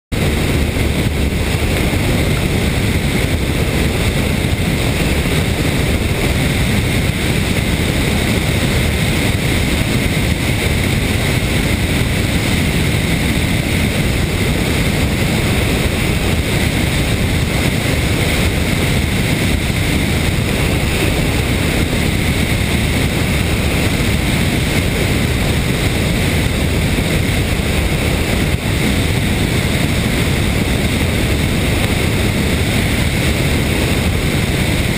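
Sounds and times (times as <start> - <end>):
aircraft engine and propeller: 0.1 - 34.9
loud wind rush: 0.1 - 34.9.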